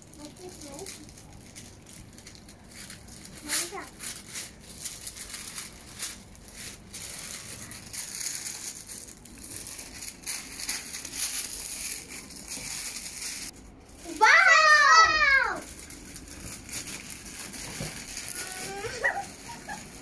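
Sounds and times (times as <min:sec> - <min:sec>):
tissue paper rustling and crinkling: 0:00.1 - 0:20.0.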